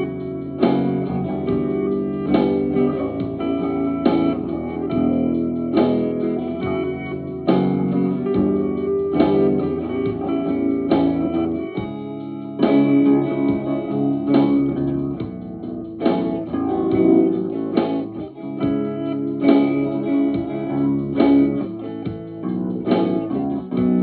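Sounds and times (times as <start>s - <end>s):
electric guitar chords ringing: 0.0s - 24.0s.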